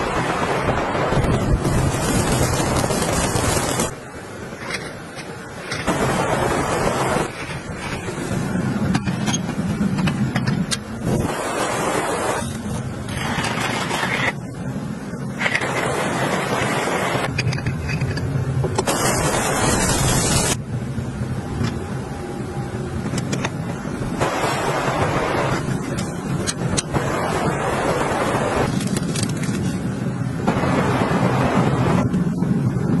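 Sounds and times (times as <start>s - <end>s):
blizzard wind blowing hard: 0.0s - 33.0s.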